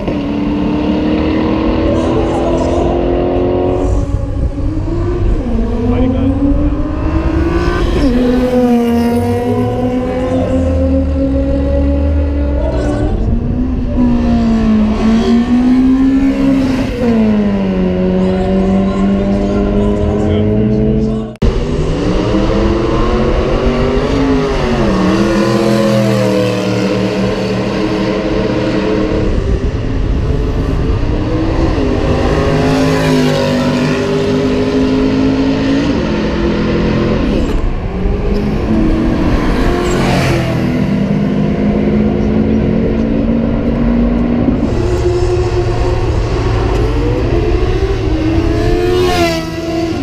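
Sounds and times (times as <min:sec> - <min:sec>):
cars accelerating with loud engines: 0:00.0 - 0:50.0.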